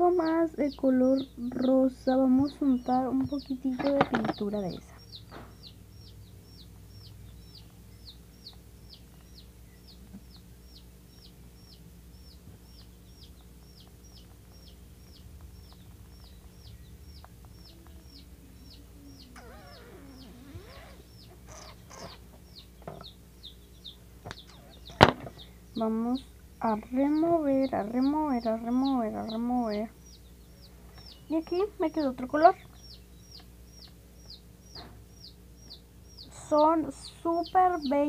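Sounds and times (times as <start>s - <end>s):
bird chirping: 0.0s - 38.0s.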